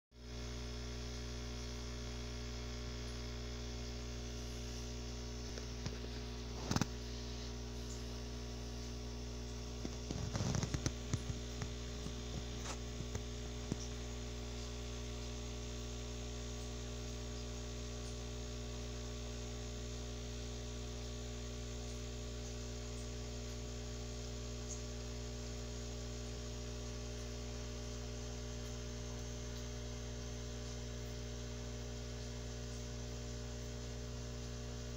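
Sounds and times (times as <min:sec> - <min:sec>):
low electrical hum: 0:00.2 - 0:34.9.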